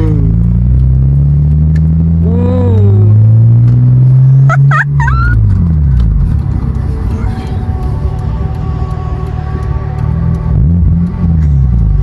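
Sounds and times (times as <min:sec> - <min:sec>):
car exhaust accelerating hard: 0:00.0 - 0:12.0.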